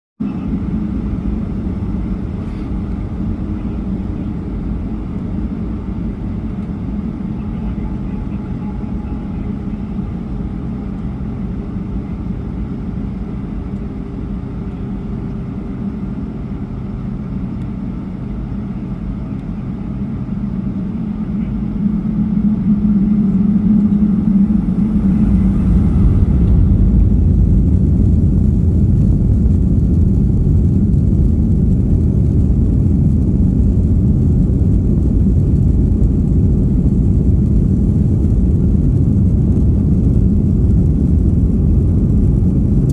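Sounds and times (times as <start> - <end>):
airliner cabin engine hum: 0.2 - 42.9.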